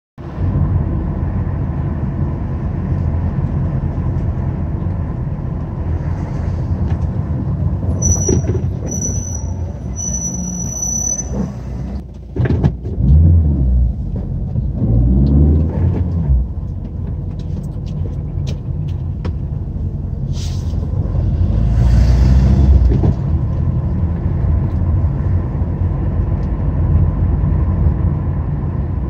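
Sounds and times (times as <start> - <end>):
car engine and tyre rumble: 0.2 - 29.0.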